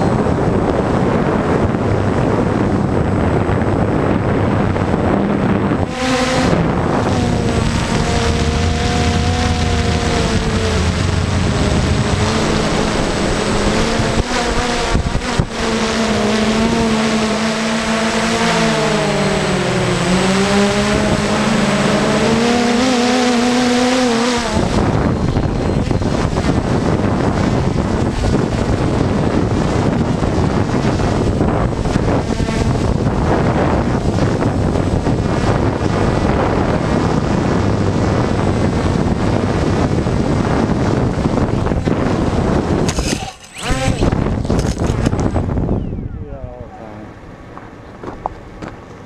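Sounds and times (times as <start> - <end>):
drone motors whining: 0.0 - 36.2, 37.1 - 49.0
wind rush: 0.0 - 47.2.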